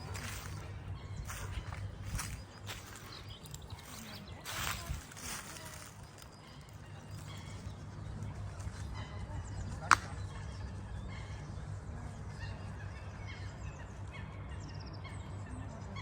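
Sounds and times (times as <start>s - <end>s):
steady low rumble: 0.0s - 16.0s
water birds calling: 0.0s - 16.0s.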